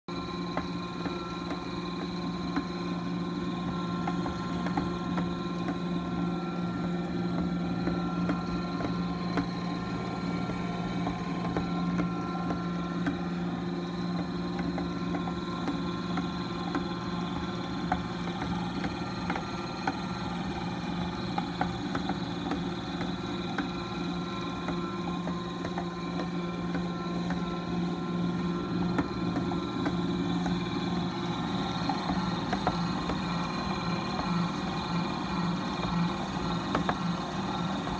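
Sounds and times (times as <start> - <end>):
high-pitched mixer whine: 0.0 - 37.9
stand mixer motor hum: 0.0 - 37.9.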